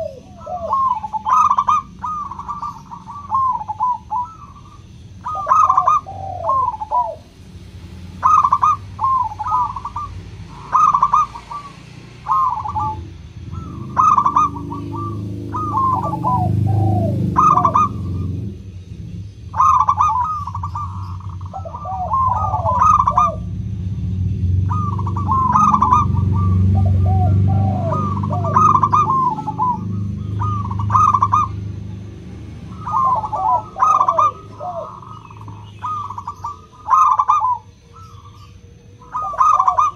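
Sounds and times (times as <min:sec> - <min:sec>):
dove cooing: 0:00.0 - 0:18.7, 0:19.4 - 0:39.9.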